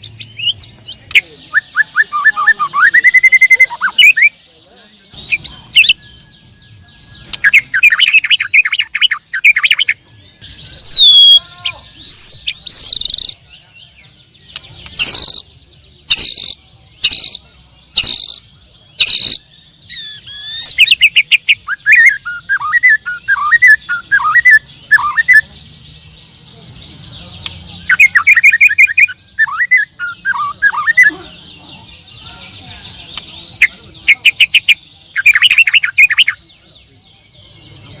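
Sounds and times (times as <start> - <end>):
canaries singing: 0.0 - 38.0.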